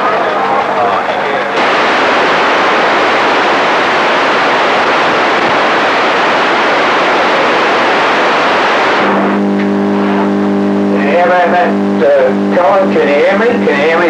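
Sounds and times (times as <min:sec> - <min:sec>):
loud radio noise hiss: 0:00.0 - 0:14.0.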